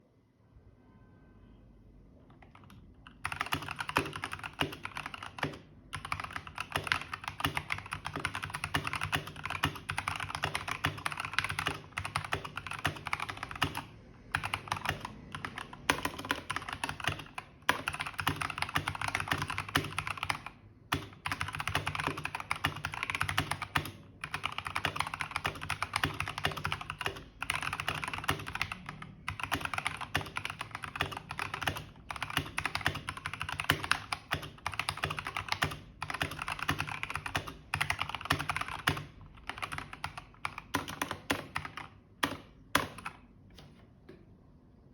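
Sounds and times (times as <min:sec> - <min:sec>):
mechanical keyboard typing: 0:02.3 - 0:43.3.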